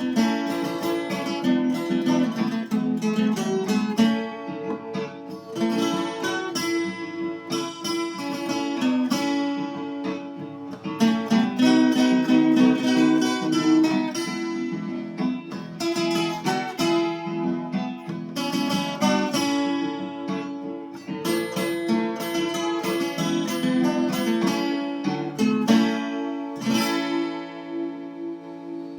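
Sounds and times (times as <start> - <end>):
plucked folk guitar hymn melody: 0.0 - 28.9.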